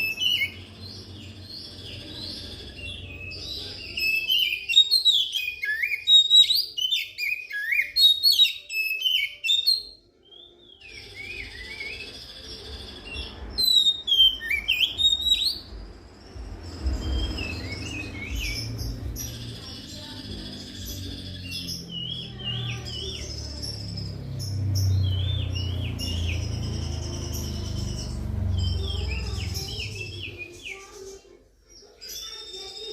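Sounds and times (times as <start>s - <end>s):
bird singing whistles and chirps: 0.0s - 32.9s.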